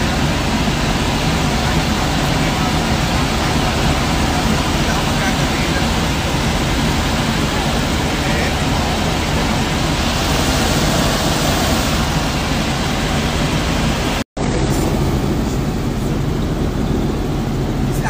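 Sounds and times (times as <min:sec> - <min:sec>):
helicopter engine and rotor noise: 0:00.0 - 0:18.0
low hum: 0:00.0 - 0:18.0.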